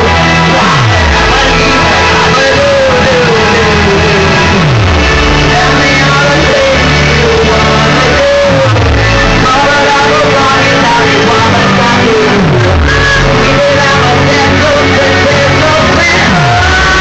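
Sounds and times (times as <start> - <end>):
person singing into a microphone: 0.0 - 17.0
rock backing track: 0.0 - 17.0
sliding bass notes: 0.0 - 17.0.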